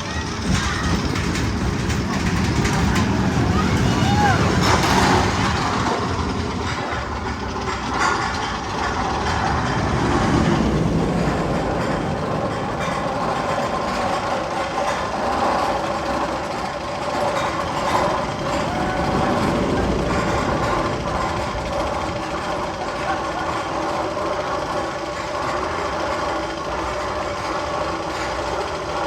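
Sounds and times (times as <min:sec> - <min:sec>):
rumbling train-like mechanical noise: 0:00.0 - 0:29.0.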